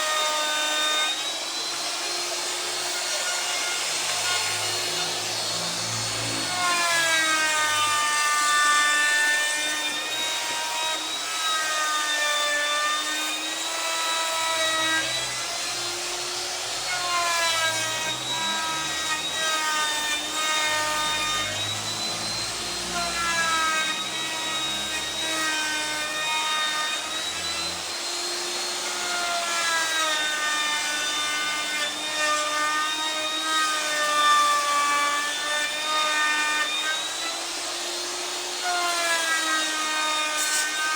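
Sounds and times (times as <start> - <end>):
power tool cutting wood: 0.0 - 40.9.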